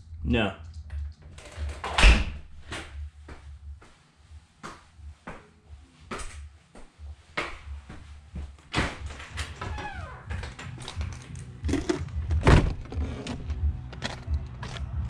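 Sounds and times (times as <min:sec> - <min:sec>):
footsteps on stairs and concrete: 0:02.6 - 0:15.0.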